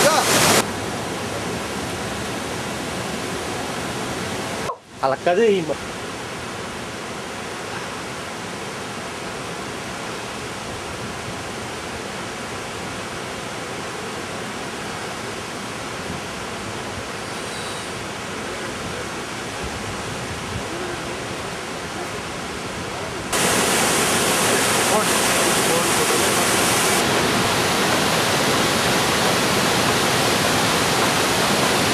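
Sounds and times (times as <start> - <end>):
water rushing over rocks: 0.0 - 31.9.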